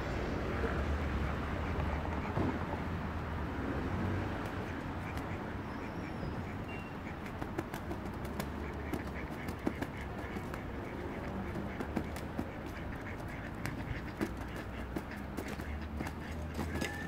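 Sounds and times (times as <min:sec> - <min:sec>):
ducks quacking: 0:00.4 - 0:02.9, 0:04.0 - 0:17.0.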